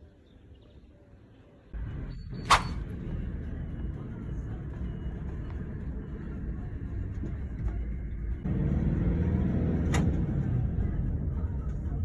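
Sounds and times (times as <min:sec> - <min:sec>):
vehicle rumbling: 0:01.7 - 0:12.0.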